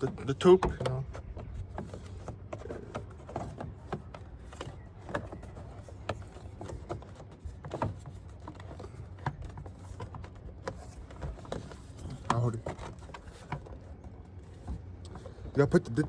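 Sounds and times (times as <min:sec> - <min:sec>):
plastic parts clicking and knocking: 0:00.0 - 0:16.0.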